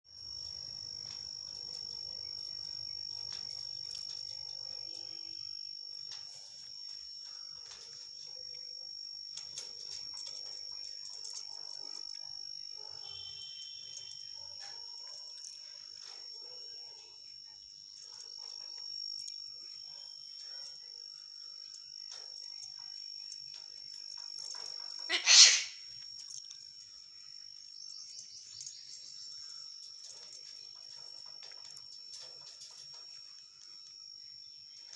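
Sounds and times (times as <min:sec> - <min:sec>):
high-pitched insect trill: 0:00.1 - 0:34.9.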